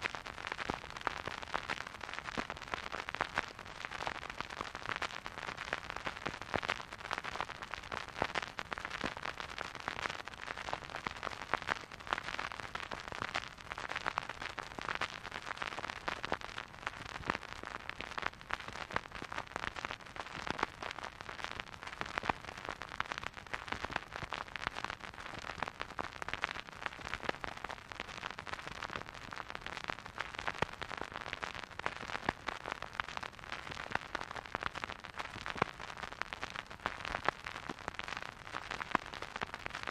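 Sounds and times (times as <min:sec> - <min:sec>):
vinyl crackle and hiss: 0:00.0 - 0:39.9.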